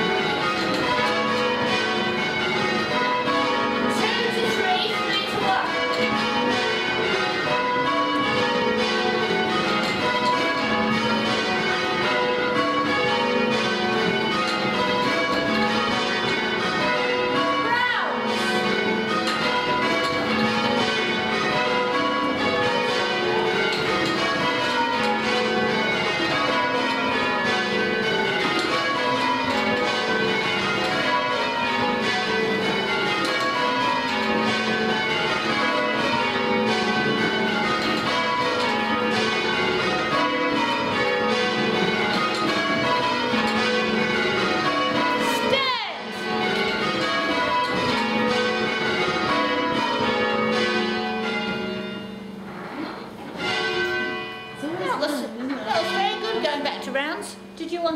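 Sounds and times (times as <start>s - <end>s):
tower bells ringing: 0.0s - 57.9s.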